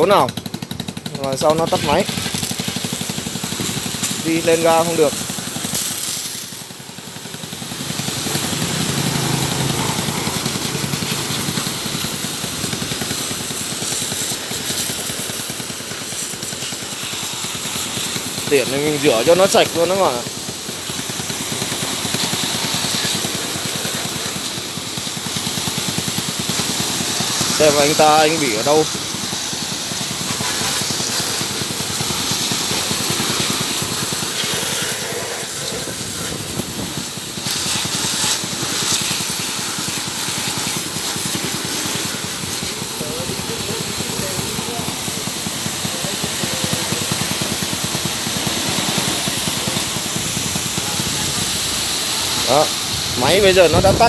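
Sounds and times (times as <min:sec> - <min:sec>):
motorbike engine idling: 0:00.0 - 0:39.5, 0:41.0 - 0:54.0
water spraying: 0:00.0 - 0:54.0.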